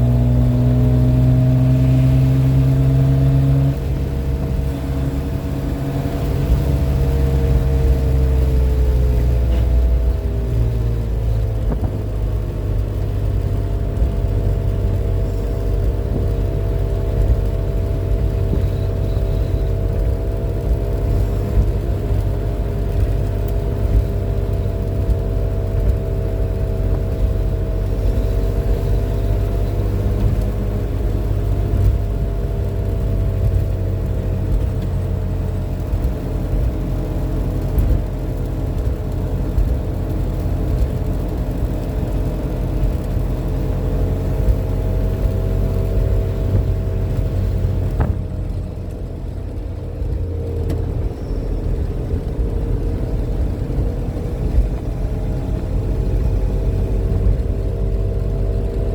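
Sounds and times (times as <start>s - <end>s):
car engine running: 0.0s - 58.9s
road rumble: 0.0s - 58.9s.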